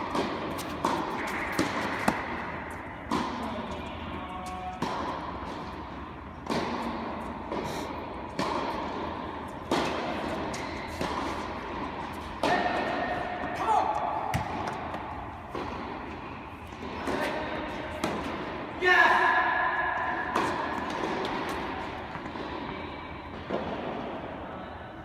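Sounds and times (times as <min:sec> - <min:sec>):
tennis ball struck by rackets: 0:00.0 - 0:03.8, 0:04.4 - 0:18.7, 0:19.5 - 0:22.7
tennis ball bouncing on court: 0:00.0 - 0:18.7, 0:19.9 - 0:24.2.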